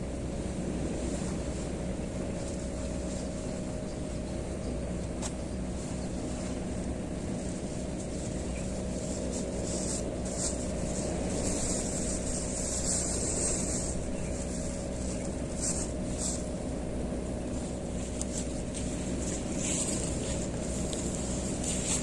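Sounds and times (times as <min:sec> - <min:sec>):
low motor drone: 0:00.0 - 0:22.0.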